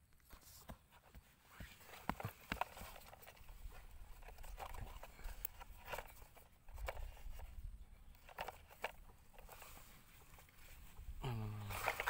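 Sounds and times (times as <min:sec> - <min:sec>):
small clicks and rustles: 0:00.0 - 0:12.0.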